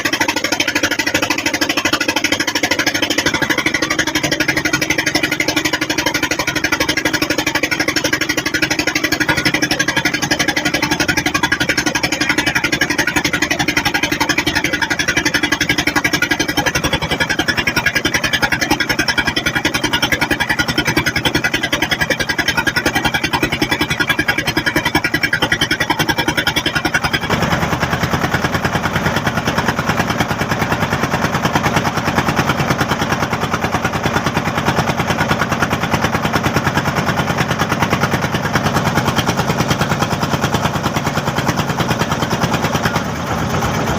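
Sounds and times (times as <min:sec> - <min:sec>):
boat engine knocking steadily: 0:00.0 - 0:43.9.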